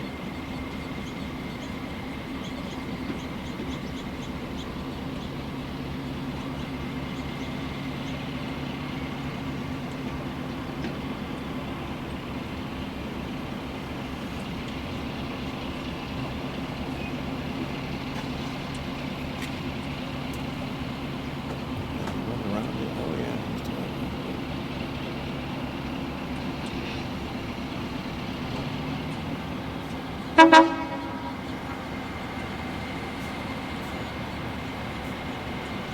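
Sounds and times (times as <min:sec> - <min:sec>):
train engine drone: 0:00.0 - 0:35.9
train rumble: 0:00.0 - 0:35.9.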